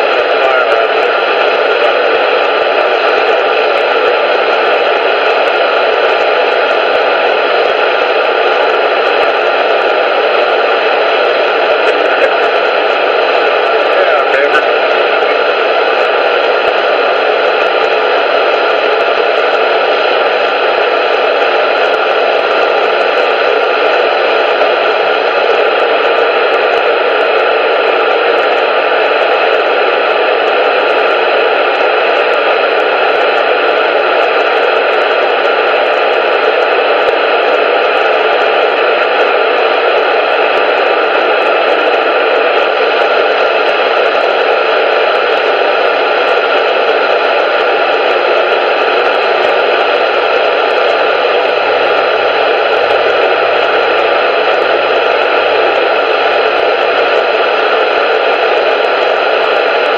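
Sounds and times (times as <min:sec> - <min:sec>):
loud static hiss: 0:00.0 - 0:59.9.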